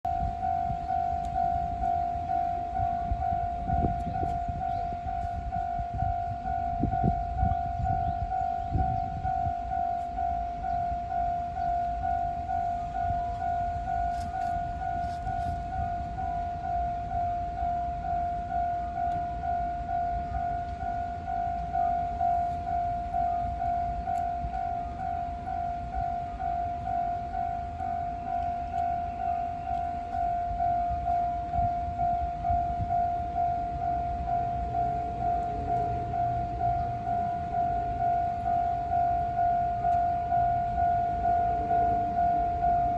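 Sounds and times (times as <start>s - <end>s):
level crossing bell ringing: 0.1s - 42.9s.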